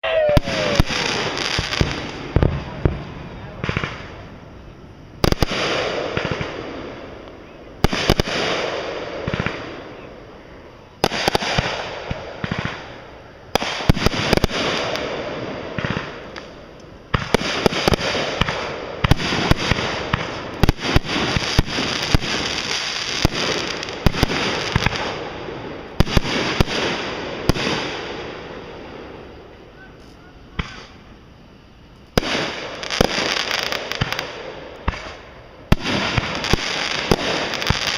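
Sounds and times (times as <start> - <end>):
fireworks bangs: 0.0 - 37.9
fireworks crackling fizz: 0.0 - 37.9
rapid fireworks pops: 0.3 - 4.2, 5.2 - 9.8, 11.0 - 28.4, 29.9 - 31.0, 31.9 - 37.9.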